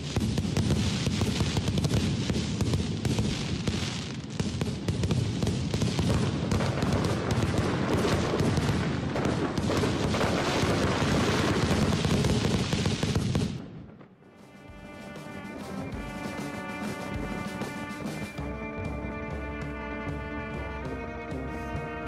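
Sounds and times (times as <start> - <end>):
fireworks bangs and crackling: 0.0 - 19.8.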